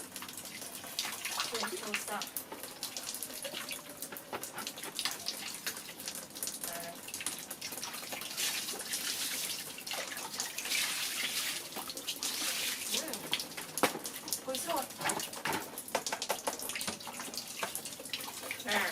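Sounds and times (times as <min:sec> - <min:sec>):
small water splashes: 0:00.0 - 0:18.9
tap water running and splashing: 0:00.0 - 0:18.9.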